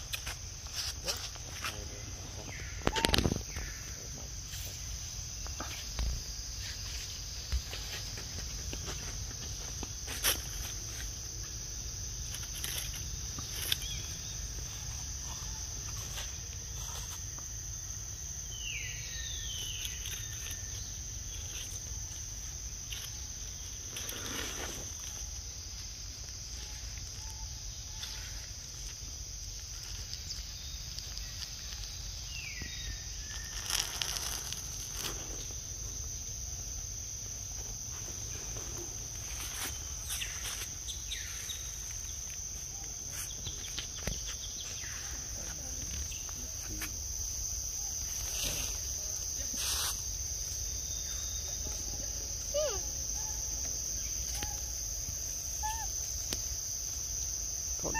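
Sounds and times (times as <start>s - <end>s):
insects droning: 0.0s - 57.9s
rustles: 0.0s - 57.9s.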